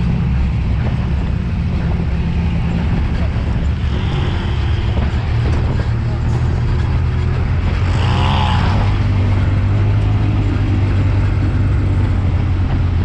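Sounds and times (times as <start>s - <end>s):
off-road vehicle engine rumbling: 0.0s - 13.0s.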